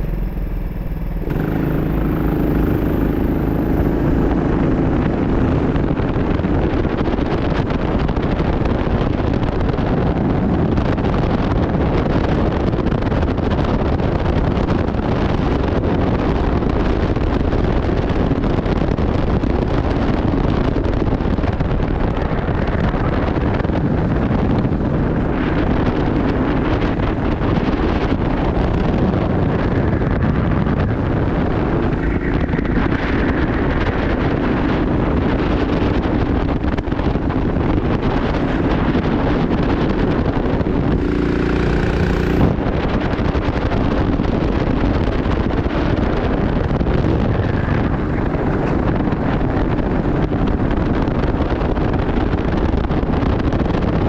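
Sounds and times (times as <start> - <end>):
go-kart engine running hard: 0.0 - 54.0
wind buffeting microphone: 0.0 - 54.0.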